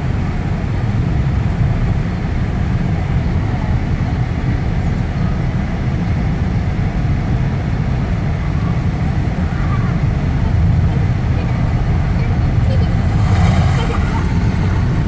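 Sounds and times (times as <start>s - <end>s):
road rumble inside a moving car: 0.0s - 15.0s.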